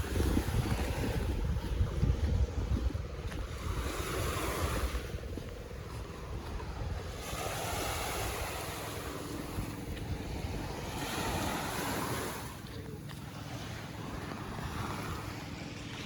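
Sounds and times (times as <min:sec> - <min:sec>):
small waves washing onto beach: 0:00.0 - 0:16.0
wind rumbling on microphone: 0:00.0 - 0:16.0.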